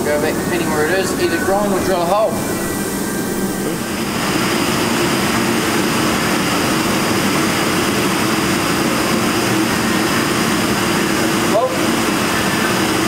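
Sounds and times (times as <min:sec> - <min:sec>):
balancing machine whirring: 0:00.0 - 0:13.0.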